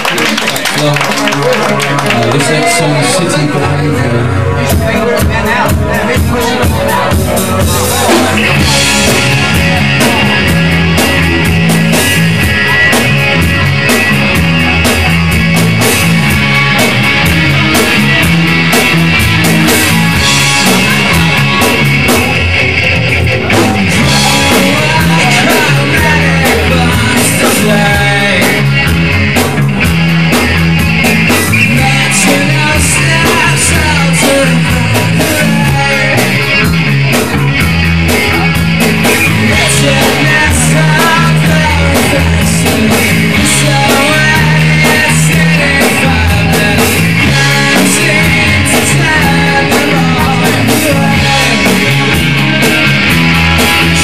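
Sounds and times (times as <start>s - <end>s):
rock band playing: 0.0s - 54.0s
person singing: 1.2s - 15.9s, 16.5s - 30.6s, 31.2s - 54.0s
repeating bass line: 1.2s - 54.0s.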